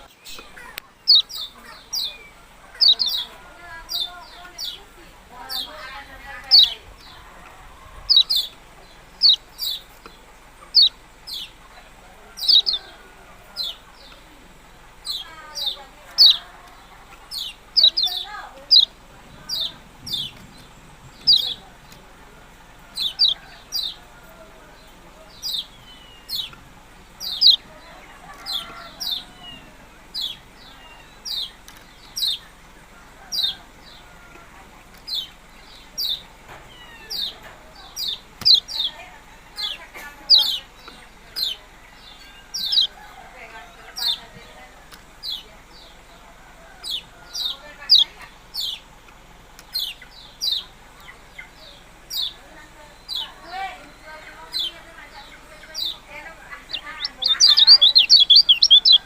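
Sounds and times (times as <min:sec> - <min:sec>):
songbird sharp chirps: 0:00.0 - 0:07.2, 0:08.0 - 0:22.1, 0:22.9 - 0:24.1, 0:24.8 - 0:32.7, 0:34.8 - 0:43.1, 0:46.8 - 0:59.0.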